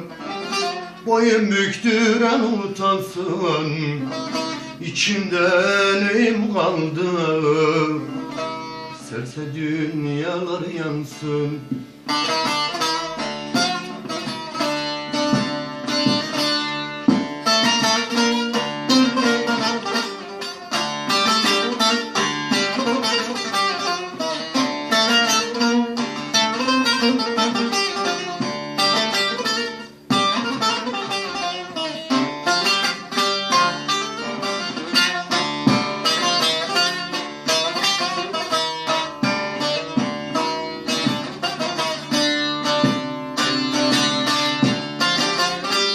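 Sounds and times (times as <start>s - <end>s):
plucked string instruments: 0.0s - 45.9s.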